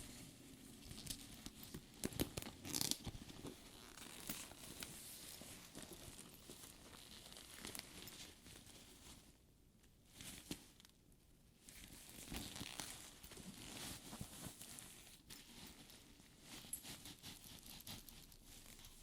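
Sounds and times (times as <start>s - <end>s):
fabric rustling and crinkling: 0.0s - 9.4s, 10.0s - 11.0s, 11.6s - 19.0s.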